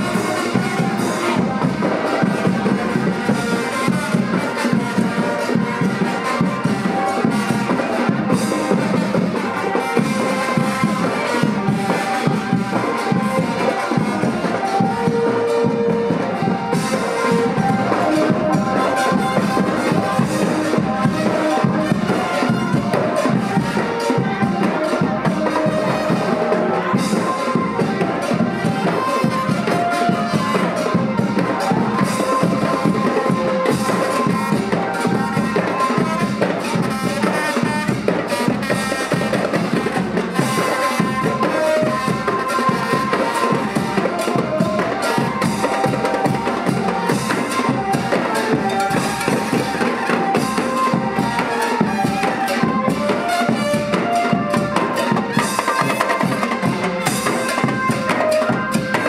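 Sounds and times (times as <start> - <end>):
drums and percussion beat: 0.0 - 59.0
held melody line: 0.0 - 59.0.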